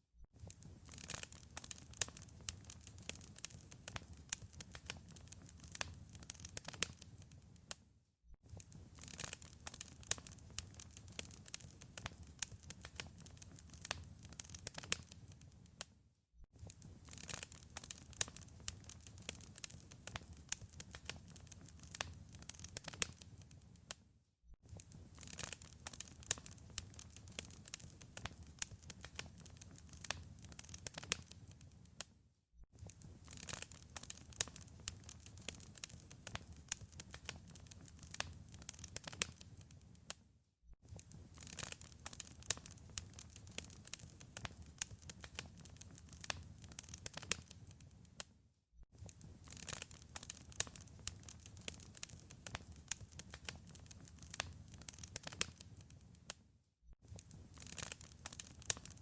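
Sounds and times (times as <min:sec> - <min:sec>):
wood fire crackling: 0:00.4 - 0:07.8, 0:08.5 - 0:15.9, 0:16.6 - 0:23.9, 0:24.7 - 0:32.1, 0:32.8 - 0:40.2, 0:40.9 - 0:48.3, 0:49.0 - 0:56.4, 0:57.0 - 0:59.0.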